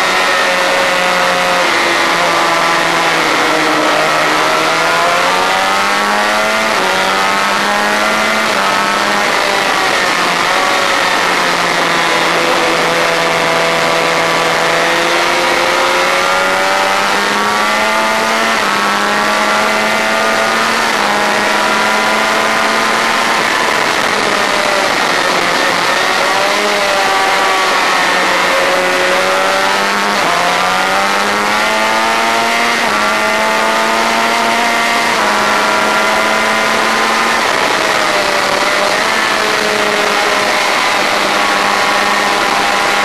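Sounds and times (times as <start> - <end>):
motorcycle engine at high revs: 0.0 - 43.0
wind rush on microphone: 0.0 - 43.0.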